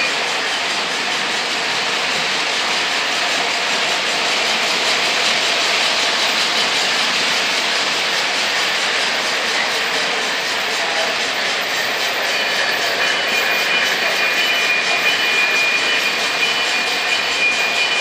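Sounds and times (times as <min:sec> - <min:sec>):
model steam train passing: 0:00.0 - 0:18.0
model train wheels rumbling on track: 0:00.0 - 0:18.0.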